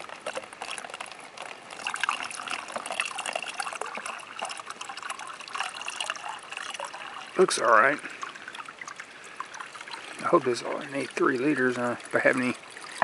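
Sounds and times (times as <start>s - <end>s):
water pouring and gurgling: 0.0s - 13.0s.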